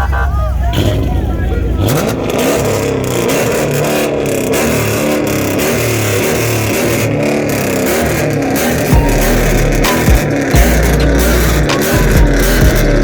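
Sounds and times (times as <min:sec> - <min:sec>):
car engine revving: 0:00.5 - 0:13.0.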